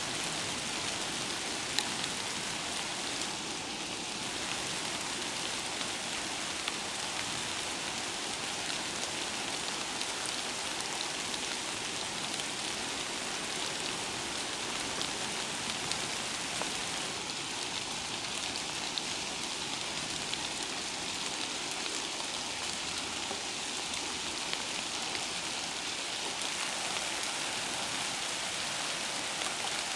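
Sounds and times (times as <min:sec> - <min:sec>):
rain on leaves: 0:00.0 - 0:29.9.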